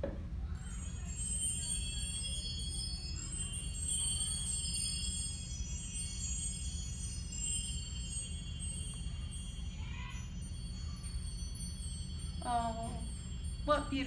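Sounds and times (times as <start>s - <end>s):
metal percussion ringing: 0.5s - 14.0s.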